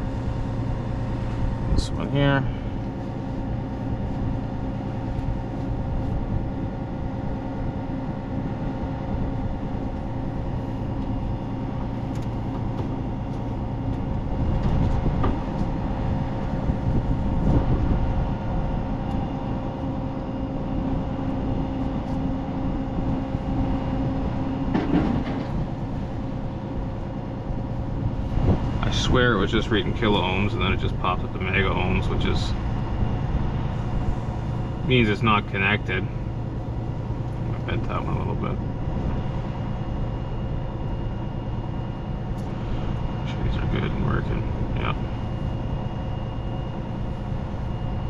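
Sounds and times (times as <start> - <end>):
engine droning: 0.0 - 48.0.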